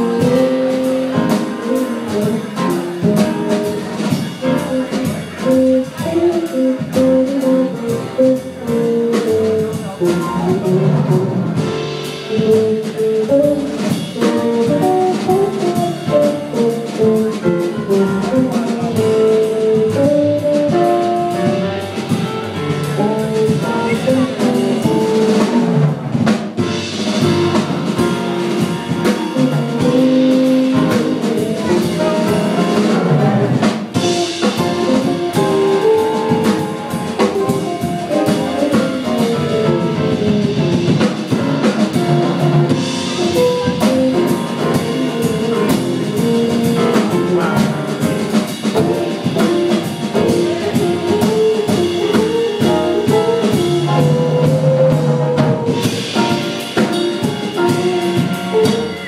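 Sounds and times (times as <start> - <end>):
drum kit beat: 0.0 - 59.0
jazz band playing: 0.0 - 59.0.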